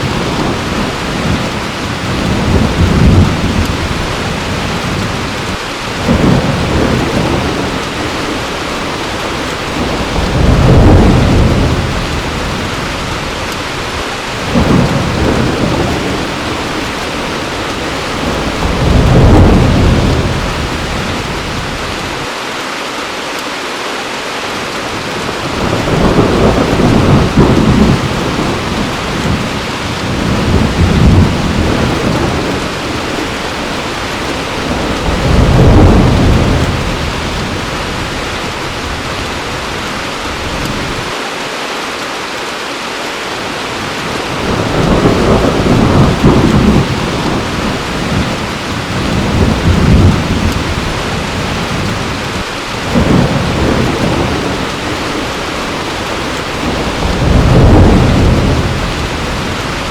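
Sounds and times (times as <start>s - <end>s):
low thunder rolls: 0.0s - 22.3s, 24.9s - 41.2s, 43.8s - 59.9s
heavy rain: 0.0s - 59.9s.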